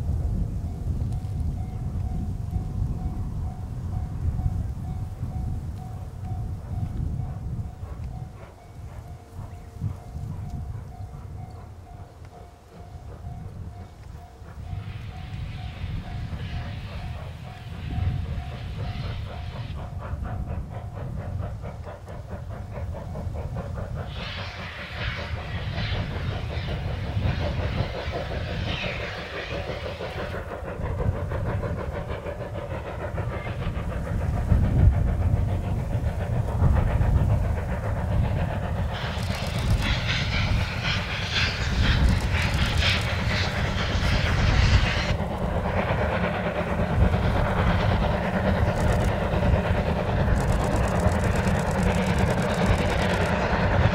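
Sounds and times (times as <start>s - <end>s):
steam hissing: 0.0s - 53.9s
steam locomotive chuffing: 0.0s - 53.9s
wheels rumbling on rails: 0.0s - 53.9s.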